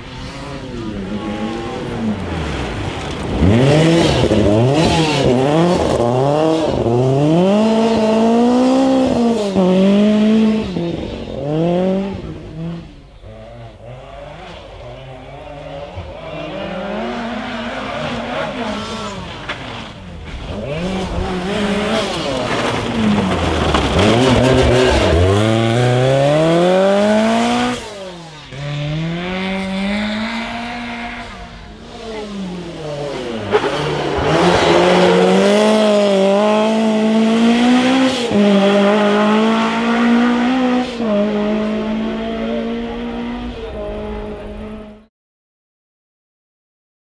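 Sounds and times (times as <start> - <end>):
rally car engine revving: 0.0 - 45.1.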